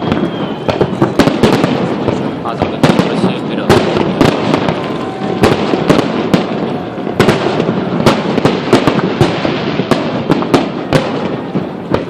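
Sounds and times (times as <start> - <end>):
fireworks sharp bangs: 0.0 - 12.0.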